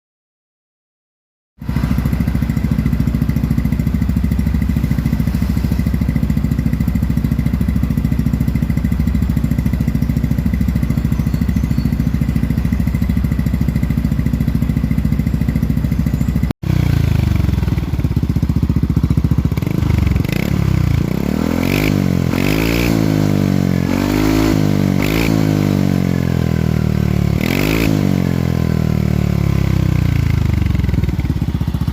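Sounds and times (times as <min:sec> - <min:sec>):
scooter engine idling and revving: 0:01.6 - 0:31.9.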